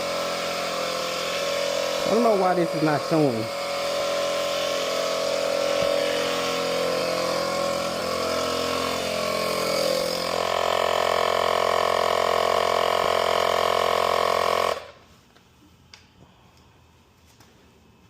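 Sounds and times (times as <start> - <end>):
tire inflator motor whine: 0.0 - 15.0.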